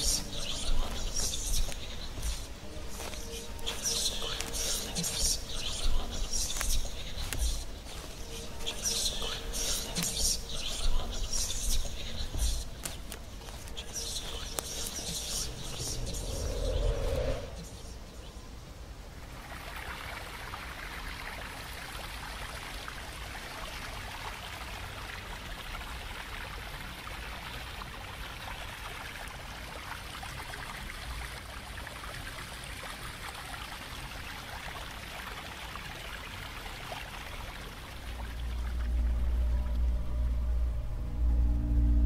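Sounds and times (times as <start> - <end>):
stream rushing over rocks: 0.0 - 16.5, 18.8 - 39.0.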